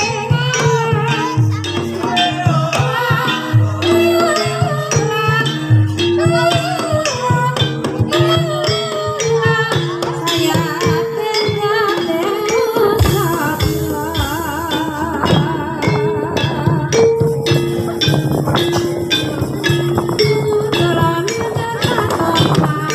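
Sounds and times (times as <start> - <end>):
woman singing: 0.0 - 18.1, 18.9 - 22.9
drum strokes: 0.0 - 22.9
metallophones playing melody: 0.0 - 22.9.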